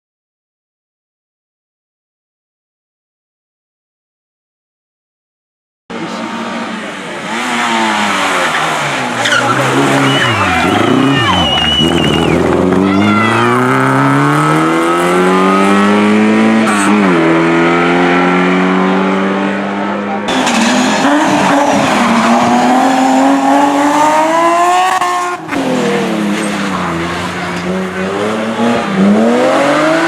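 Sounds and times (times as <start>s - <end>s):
race car engine revving: 5.9s - 30.0s.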